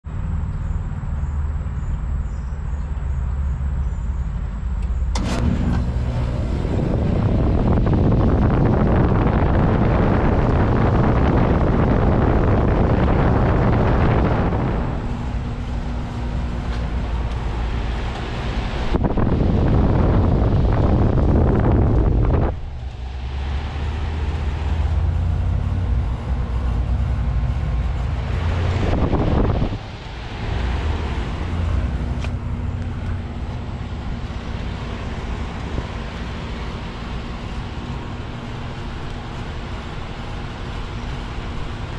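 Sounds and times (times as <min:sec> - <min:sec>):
heat pump fan rushing: 0:00.0 - 0:41.9
steady low hum: 0:00.0 - 0:41.9
wind on microphone: 0:05.2 - 0:41.9.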